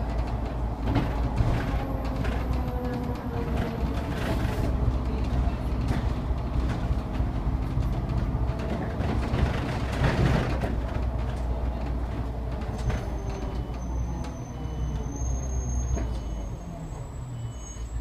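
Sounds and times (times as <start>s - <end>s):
bus engine drone: 0.0s - 18.0s
road noise: 0.0s - 18.0s.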